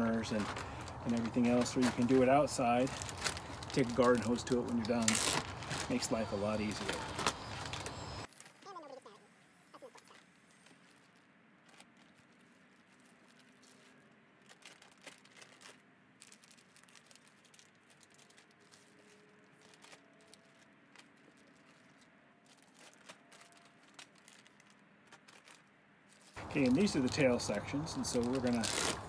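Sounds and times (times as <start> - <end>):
plastic bags crinkling: 0.0 - 9.2, 9.8 - 29.0.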